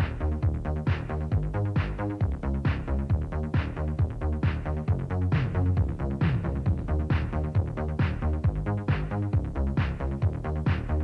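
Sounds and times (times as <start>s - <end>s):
drum machine kick drum: 0.0s - 11.0s
synth bass notes: 0.0s - 11.0s.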